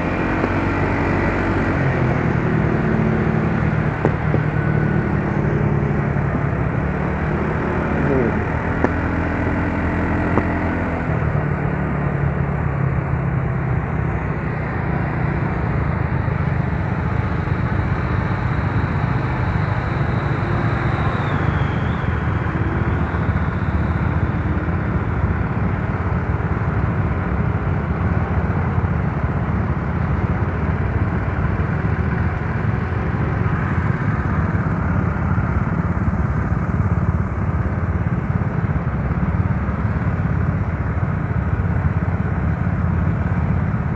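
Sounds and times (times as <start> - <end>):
scooter engine running: 0.0 - 43.9.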